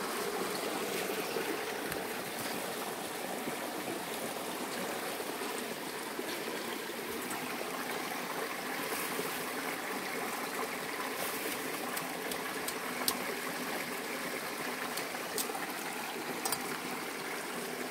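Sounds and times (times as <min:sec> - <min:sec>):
stream running: 0:00.0 - 0:17.9.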